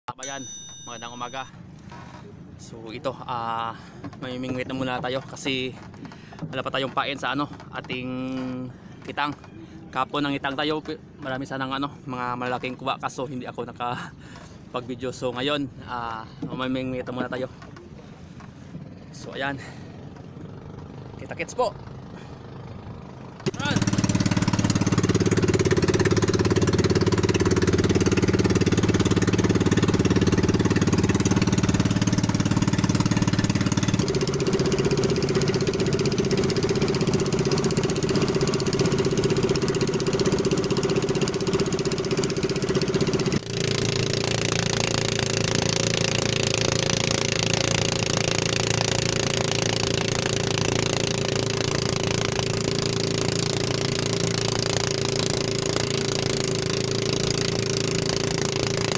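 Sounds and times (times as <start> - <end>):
boat engine droning: 0.2 - 58.9.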